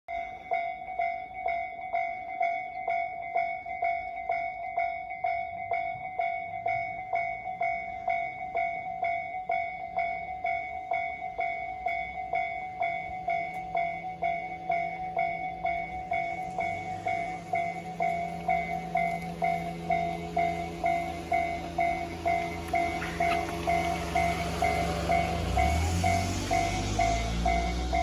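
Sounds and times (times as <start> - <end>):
level crossing warning bell: 0.1 - 28.0.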